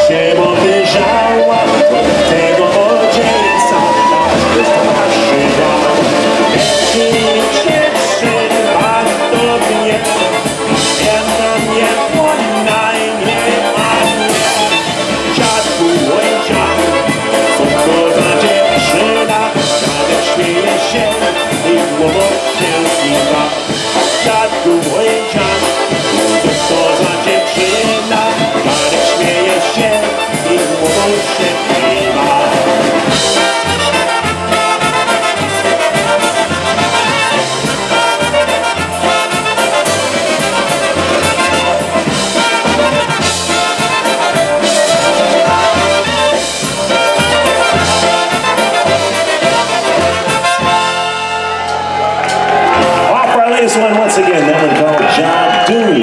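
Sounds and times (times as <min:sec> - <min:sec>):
low bass beat: 0:00.0 - 0:51.1
clarinet: 0:00.0 - 0:53.1
accordion: 0:00.0 - 0:56.0
drums: 0:00.0 - 0:56.0
trumpets: 0:00.0 - 0:56.0.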